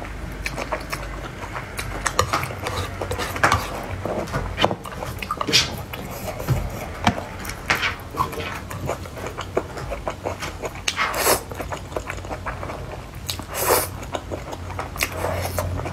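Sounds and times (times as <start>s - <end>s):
wet chewing and smacking: 0.0s - 15.9s.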